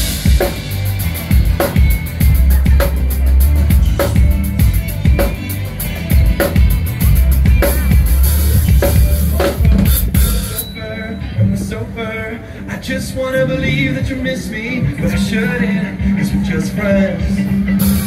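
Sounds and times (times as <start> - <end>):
pop-rock band playing: 0.0 - 18.0.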